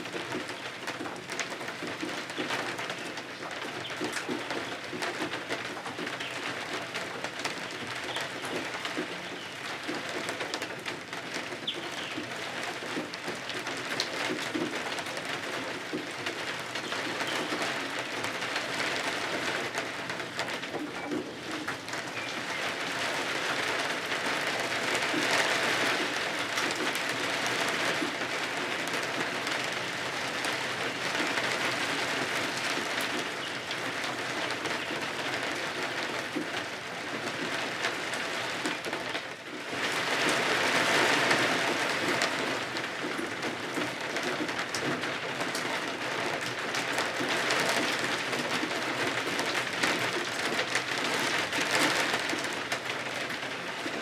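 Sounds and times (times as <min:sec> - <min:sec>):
rain pattering on windows and roof: 0:00.0 - 0:54.0.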